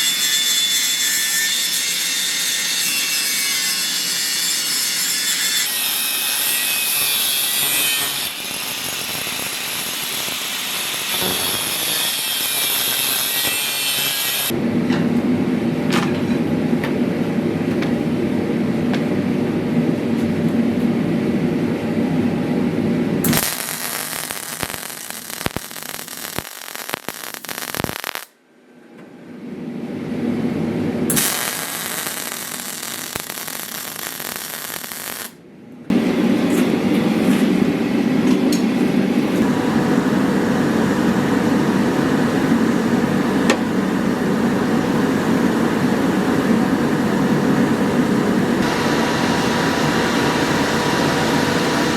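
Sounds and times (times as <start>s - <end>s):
low steady tool drone: 0.0s - 25.8s, 35.4s - 51.9s.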